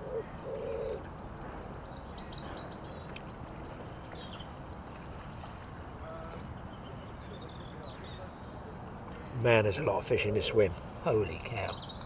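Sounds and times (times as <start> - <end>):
open-air background hum: 0.0 - 12.0
songbirds chirping: 0.0 - 12.0.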